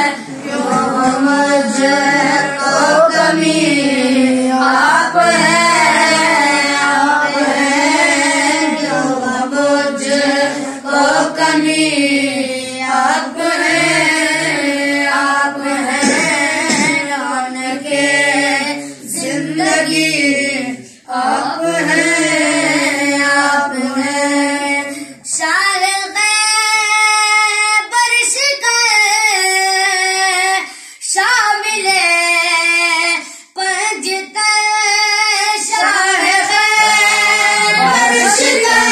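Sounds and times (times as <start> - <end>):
boys singing together: 0.0 - 38.9.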